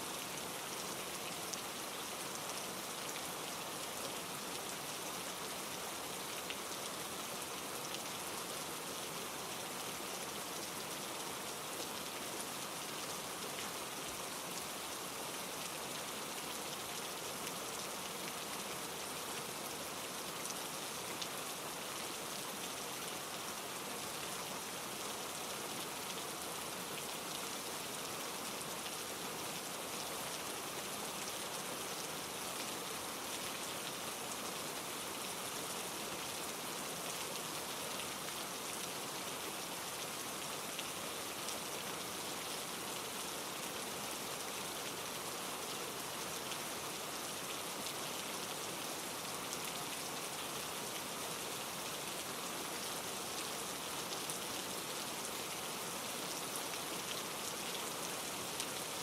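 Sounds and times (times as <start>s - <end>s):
stream over rocks: 0.0s - 59.0s.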